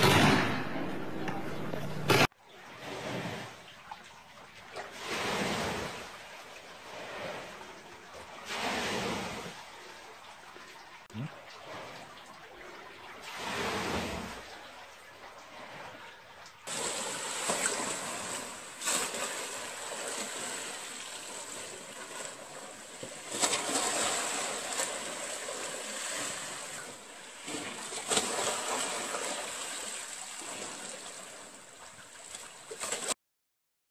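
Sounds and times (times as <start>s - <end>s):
water splashing surges: 0.0s - 33.2s
pool water sloshing and slapping: 2.2s - 33.2s.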